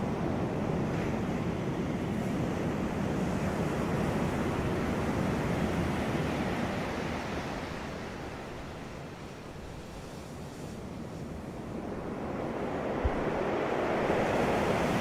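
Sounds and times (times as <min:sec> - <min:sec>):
sea waves washing onto beach: 0:00.2 - 0:15.0.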